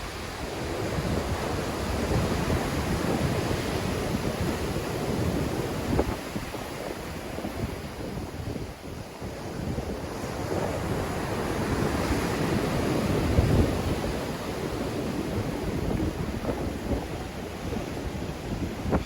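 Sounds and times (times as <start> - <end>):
waves surging and breaking: 0.0 - 19.0
wind buffeting microphone: 0.0 - 19.0.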